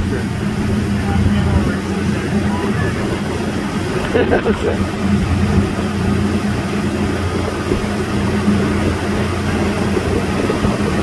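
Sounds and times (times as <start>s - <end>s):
motorboat engine humming: 0.0s - 11.0s.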